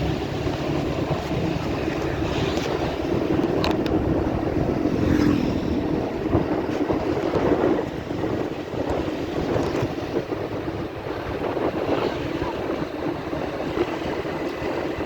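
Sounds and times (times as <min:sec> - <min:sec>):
vehicle and road noise: 0:00.0 - 0:15.0
wind buffeting microphone: 0:00.0 - 0:15.0.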